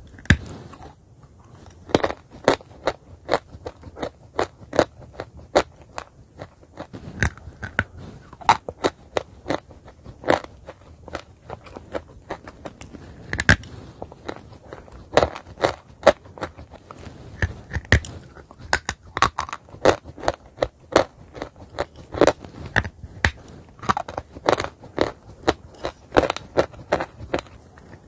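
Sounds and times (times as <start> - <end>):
chewing chalk crunches: 0.1 - 28.0.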